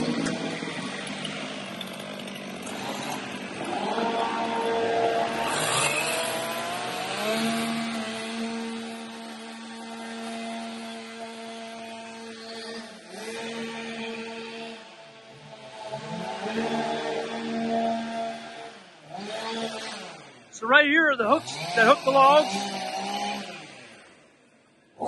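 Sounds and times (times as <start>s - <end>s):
chainsaw cutting log: 0.0s - 25.0s.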